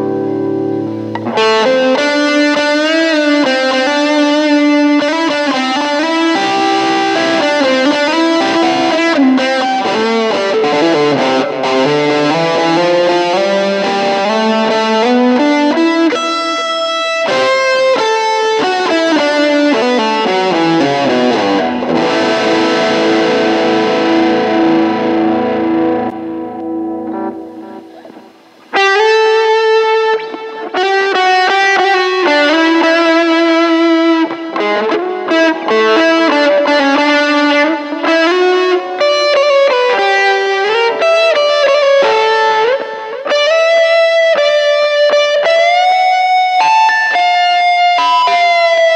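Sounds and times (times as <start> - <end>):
electric guitar lead lines: 0.0 - 48.9.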